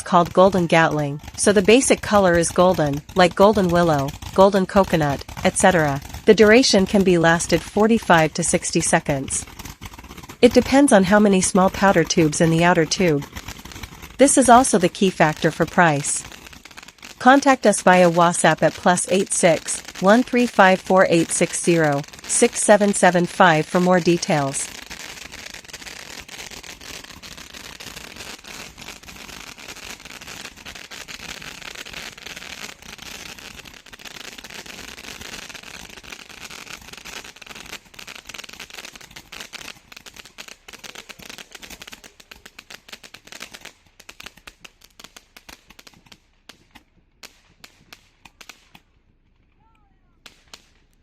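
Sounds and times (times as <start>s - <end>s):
firework rapid-fire shots: 0.0s - 51.0s.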